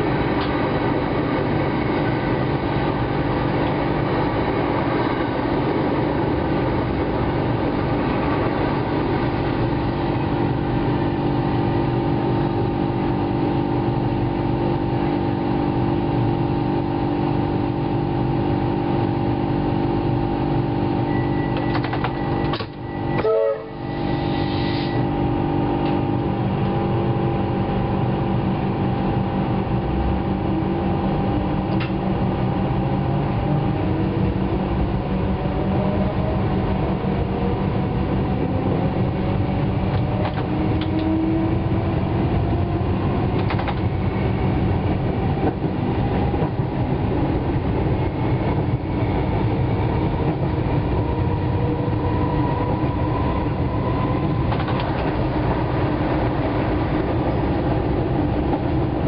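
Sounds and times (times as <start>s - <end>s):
wheels rumbling on track: 0.0s - 59.0s.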